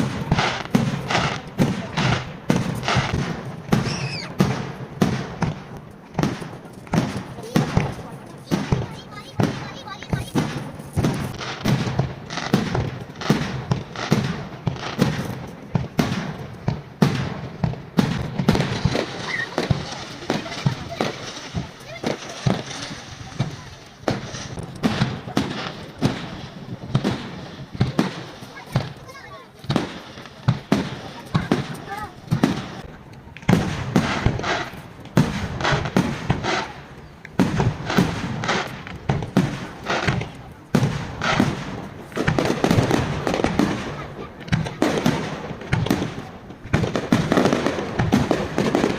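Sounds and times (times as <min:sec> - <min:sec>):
fireworks bursting with echo: 0:00.0 - 0:48.9.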